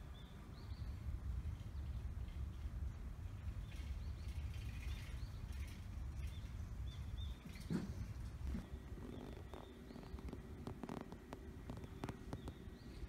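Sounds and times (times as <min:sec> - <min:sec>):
low steady hum: 0:00.0 - 0:13.0
wind rumbling on microphone: 0:00.0 - 0:13.0.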